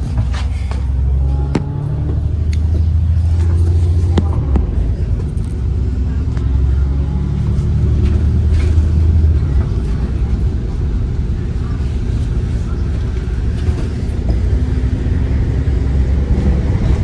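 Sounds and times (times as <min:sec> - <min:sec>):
bus engine running: 0:00.0 - 0:17.0.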